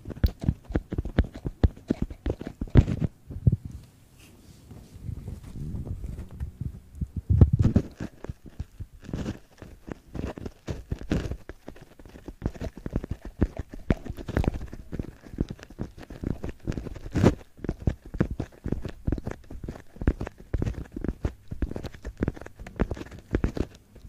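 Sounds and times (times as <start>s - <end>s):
fingers tapping and scratching: 0.0s - 3.6s, 6.0s - 24.0s.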